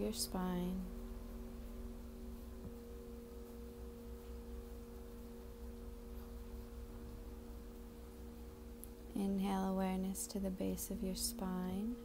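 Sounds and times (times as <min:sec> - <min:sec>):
faint low rumble: 0:00.0 - 0:12.0
steady pure tones: 0:00.0 - 0:12.0.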